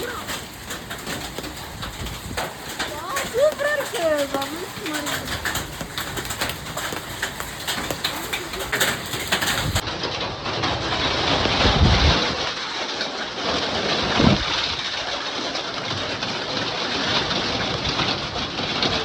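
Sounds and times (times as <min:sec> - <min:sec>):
hailstones hitting surfaces: 0:00.0 - 0:19.0
heavy rain: 0:00.0 - 0:19.0.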